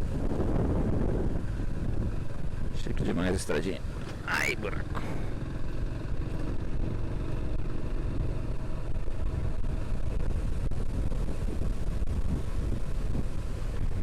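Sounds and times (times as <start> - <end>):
motorcycle engine running: 0.0 - 14.0
wind rumbling on microphone: 0.0 - 14.0.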